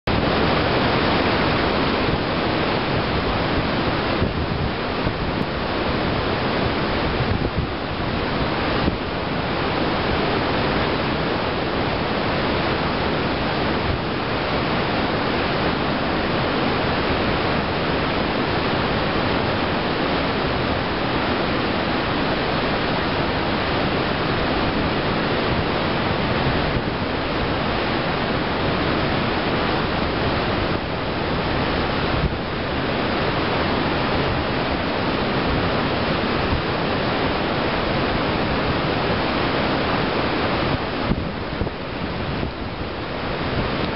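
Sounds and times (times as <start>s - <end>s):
wind on microphone: 0.0s - 43.9s
ship wake water churning: 0.1s - 43.9s.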